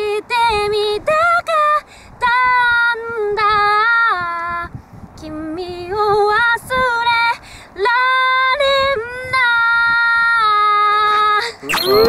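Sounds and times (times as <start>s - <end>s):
woman singing a pop ballad: 0.0s - 11.4s.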